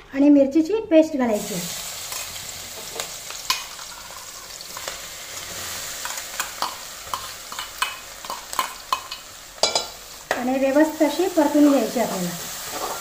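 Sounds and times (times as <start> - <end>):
paste sizzling in hot oil: 1.4 - 13.0.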